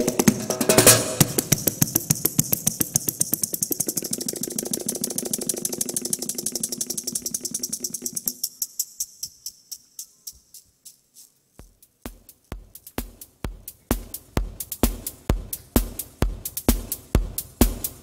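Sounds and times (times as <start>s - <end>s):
drumming on luggage cases: 0.0s - 9.9s, 11.6s - 18.0s.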